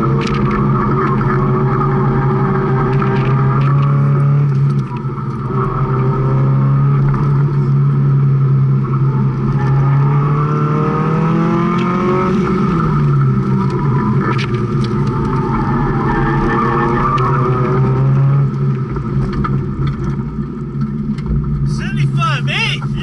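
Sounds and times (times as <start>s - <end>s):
car engine at full effort: 0.0s - 23.0s.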